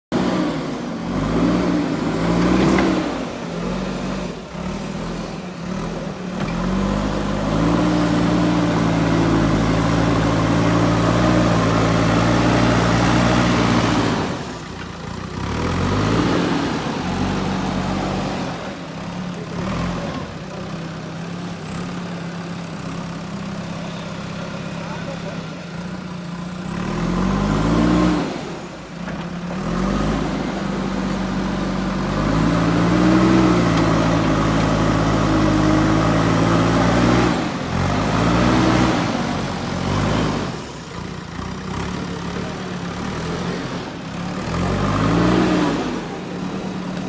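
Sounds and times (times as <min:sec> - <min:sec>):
diesel engine revving: 0:00.1 - 0:47.0.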